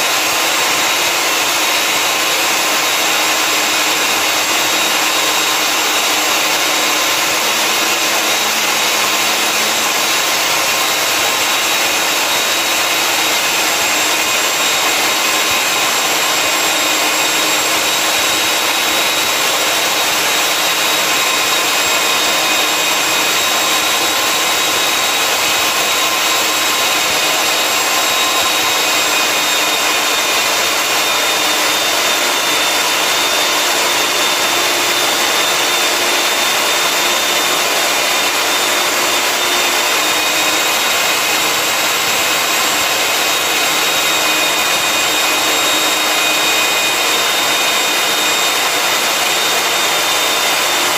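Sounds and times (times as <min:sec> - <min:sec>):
core drill cutting concrete: 0:00.0 - 0:50.9.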